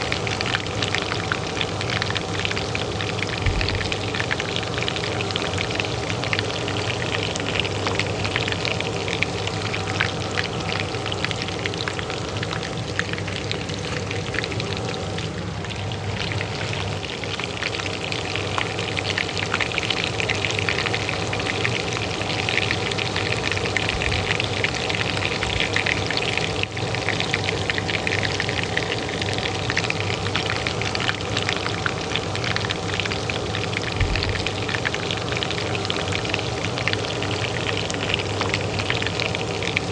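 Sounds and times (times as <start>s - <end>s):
oil frying in a pan: 0.0s - 39.9s
range hood fan humming: 0.0s - 39.9s.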